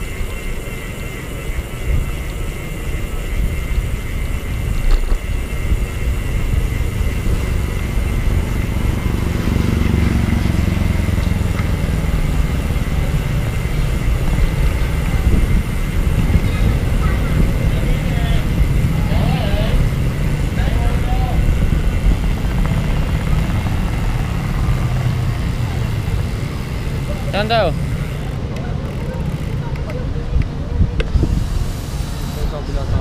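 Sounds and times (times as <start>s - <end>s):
road traffic: 0.0s - 33.0s
vehicle engine rumble: 0.0s - 33.0s.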